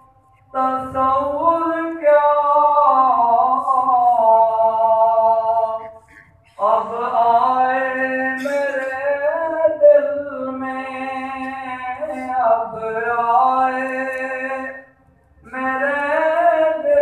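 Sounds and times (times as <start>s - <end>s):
man singing unaccompanied: 0.0s - 6.0s, 6.6s - 17.0s.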